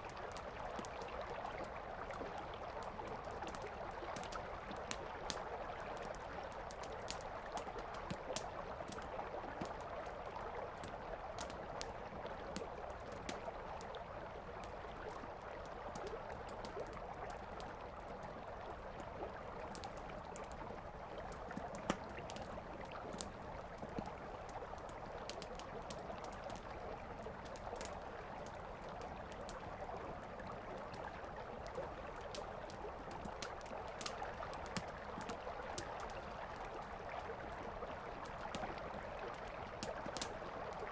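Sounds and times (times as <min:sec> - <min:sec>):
campfire crackling and popping: 0:00.0 - 0:13.9, 0:14.5 - 0:40.9.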